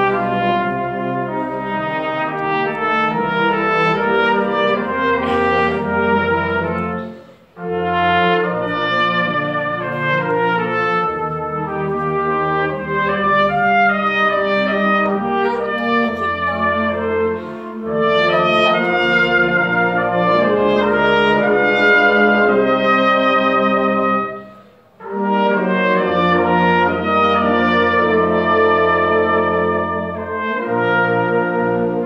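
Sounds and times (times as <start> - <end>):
band accompanying: 0.0 - 32.0
cornet solo: 0.0 - 32.0.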